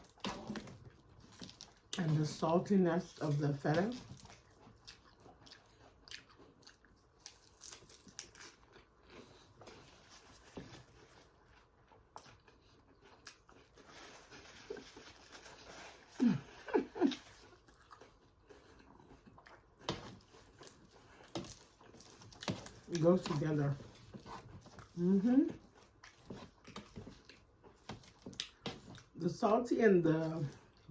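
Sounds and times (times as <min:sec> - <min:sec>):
chewing crunchy salad leaves: 0:00.0 - 0:30.9.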